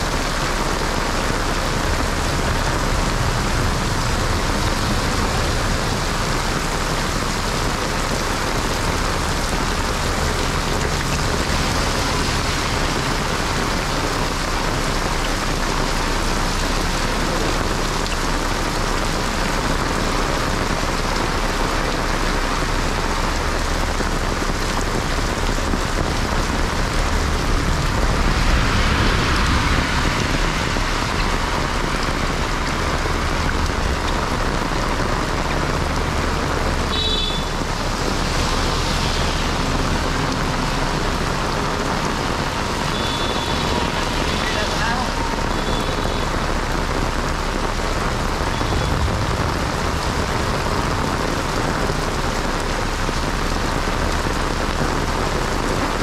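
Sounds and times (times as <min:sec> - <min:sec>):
heavy rain pouring on flooded street: 0:00.0 - 0:56.0.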